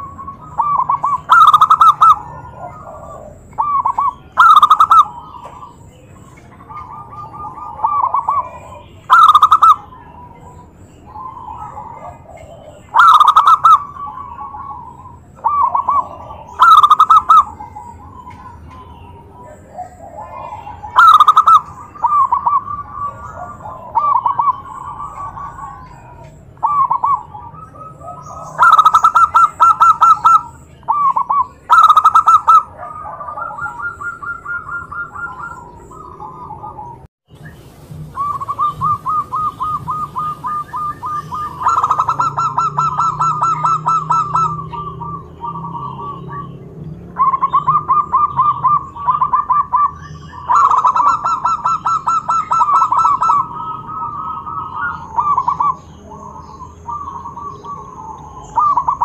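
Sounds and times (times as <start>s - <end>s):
dove cooing: 0.0s - 37.1s, 38.1s - 59.0s.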